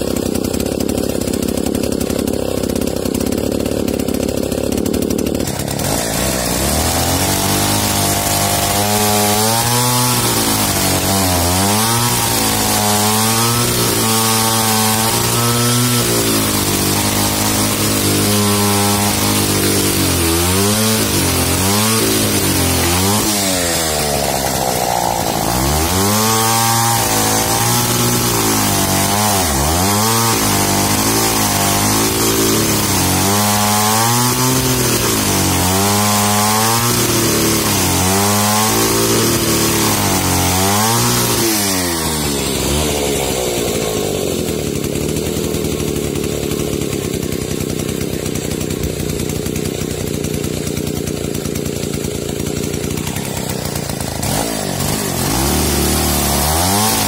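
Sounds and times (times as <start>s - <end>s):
chainsaw sawing through log: 0.0s - 57.0s.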